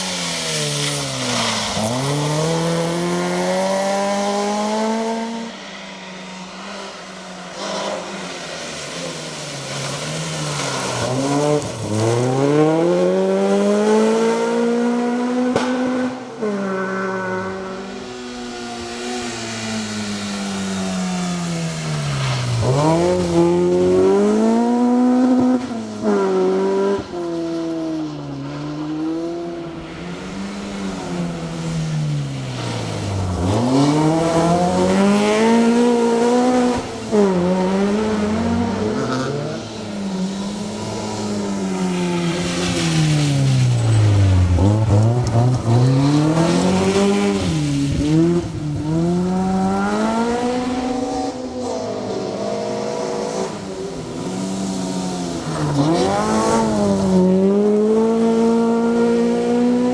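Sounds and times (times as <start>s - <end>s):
rally car engine revving: 9.7s - 59.9s.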